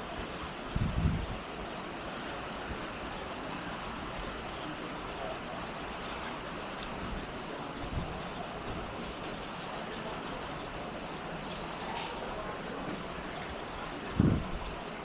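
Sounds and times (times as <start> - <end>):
steady rushing noise: 0.0 - 14.8.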